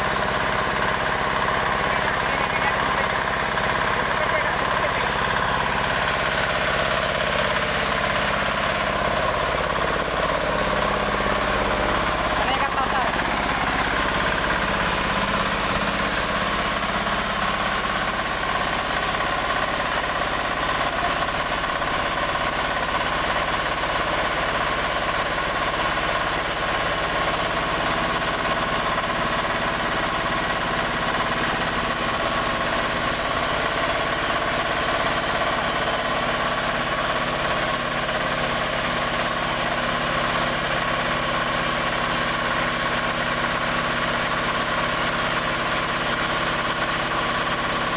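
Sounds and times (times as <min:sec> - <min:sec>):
diesel engine running steadily: 0:00.0 - 0:47.9.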